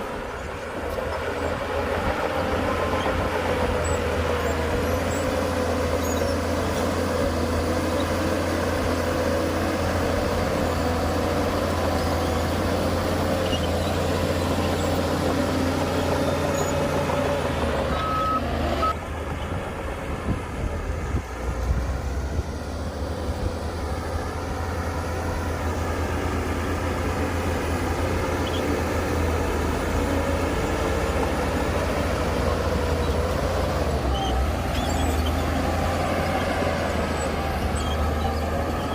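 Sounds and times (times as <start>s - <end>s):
heavy diesel engines droning: 0.0s - 38.9s.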